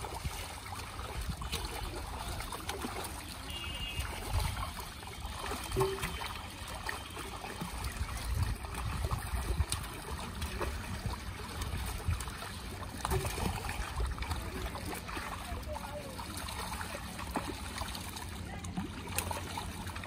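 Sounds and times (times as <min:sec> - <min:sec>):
fish thrashing in water: 0:00.0 - 0:20.0
water trickling off net: 0:00.0 - 0:20.0.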